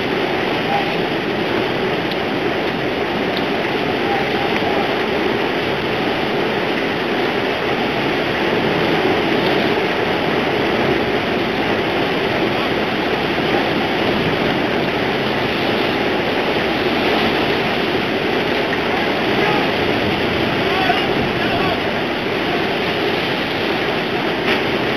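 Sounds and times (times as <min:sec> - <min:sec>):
rough sea rushing around hull: 0:00.0 - 0:24.9.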